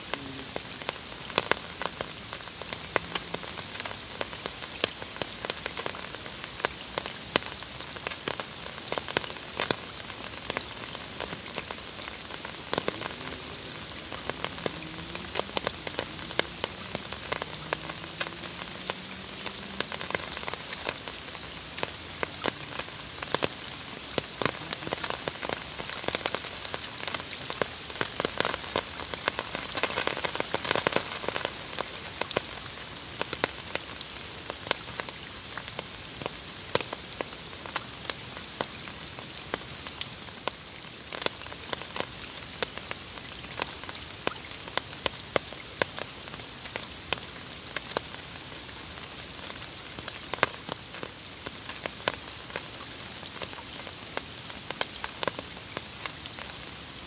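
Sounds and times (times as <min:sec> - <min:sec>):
rain falling on pond: 0:00.0 - 0:57.0.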